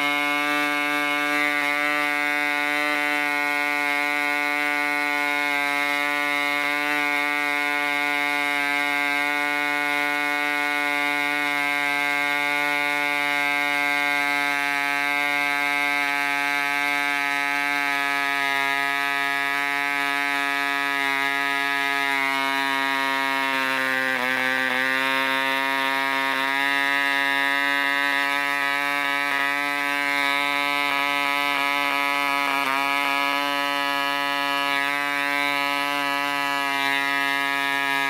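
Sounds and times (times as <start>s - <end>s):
model engine high buzz: 0.0s - 38.0s.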